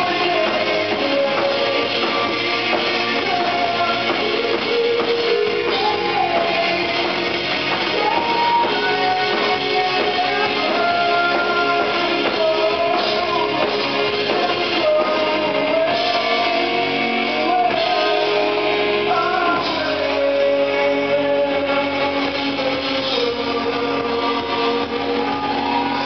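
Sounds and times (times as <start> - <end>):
drums: 0.0 - 26.0
electric guitars: 0.0 - 26.0
keyboards: 0.0 - 26.0
person singing: 0.0 - 26.0.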